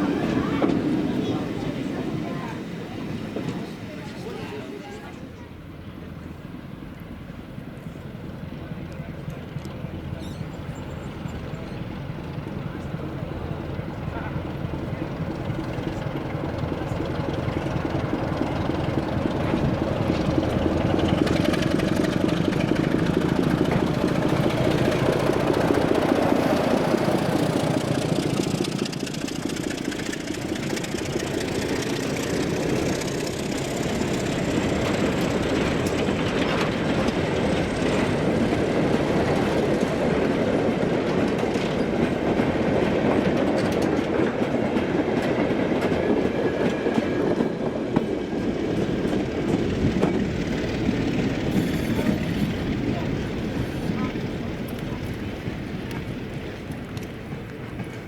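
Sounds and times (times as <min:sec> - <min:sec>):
train running on rails: 0:00.0 - 0:58.0.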